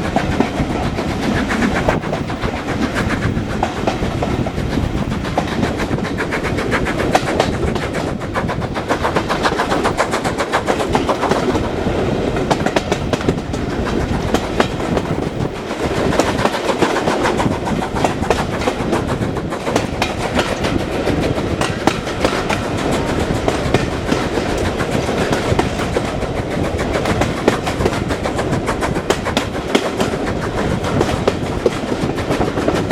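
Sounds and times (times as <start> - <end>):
train rumble: 0.0 - 32.9
wheels clattering over rails: 0.0 - 32.9.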